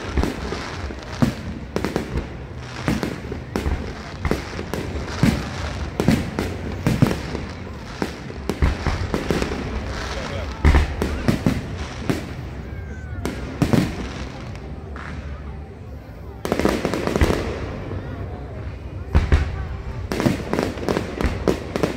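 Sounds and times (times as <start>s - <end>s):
fireworks bursting: 0.0s - 21.9s.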